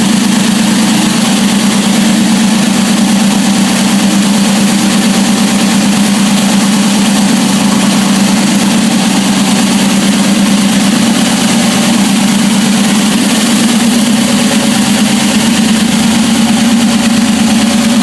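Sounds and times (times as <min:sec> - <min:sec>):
loud engine running on dyno: 0:00.0 - 0:18.0.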